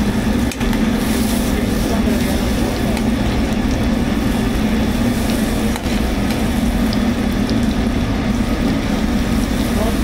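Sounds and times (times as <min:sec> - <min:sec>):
kitchen machinery drone: 0:00.0 - 0:10.0.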